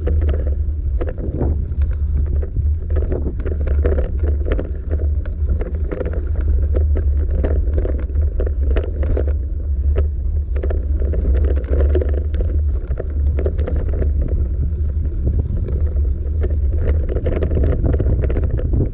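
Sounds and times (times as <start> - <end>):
bike rattling over rough ground: 0.0 - 18.9
wind rumble on microphone: 0.0 - 18.9.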